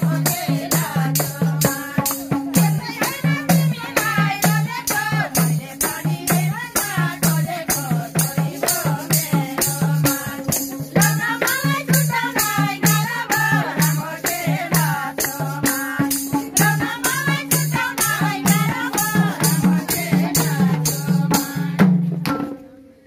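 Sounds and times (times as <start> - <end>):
tambourine jingling: 0.0 - 21.8
women singing folk song: 0.0 - 22.1
hand drums beating: 0.0 - 22.6.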